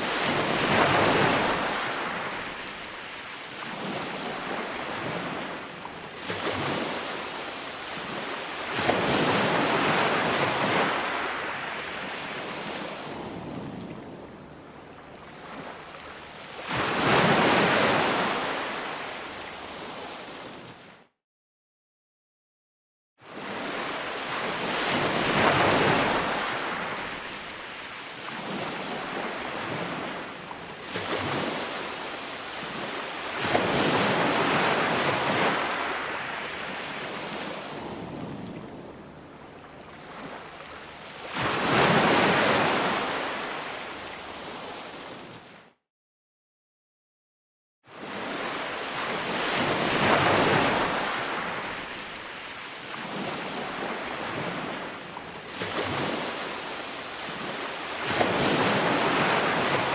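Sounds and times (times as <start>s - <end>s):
ocean waves breaking on shore: 0.0s - 21.1s, 23.2s - 45.8s, 47.9s - 59.9s.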